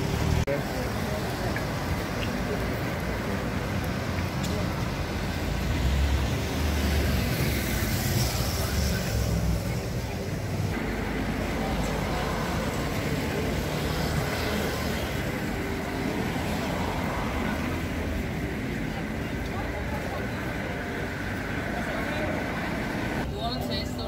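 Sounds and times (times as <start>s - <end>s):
cars driving past: 0.0s - 23.3s
people talking: 0.3s - 5.3s, 8.2s - 24.0s.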